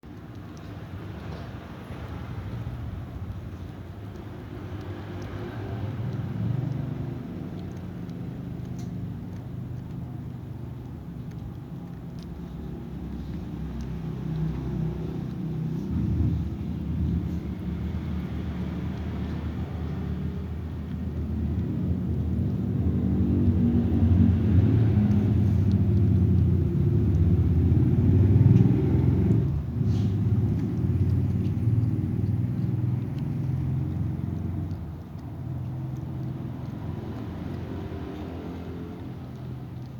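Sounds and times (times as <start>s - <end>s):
low motor rumble: 0.0s - 39.9s
vehicle engine humming: 0.0s - 39.9s.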